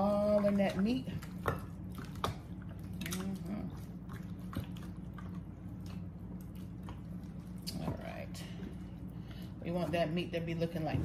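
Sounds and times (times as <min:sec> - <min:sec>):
hands squishing raw meat: 0:00.0 - 0:09.5
steady low hum: 0:00.0 - 0:11.0.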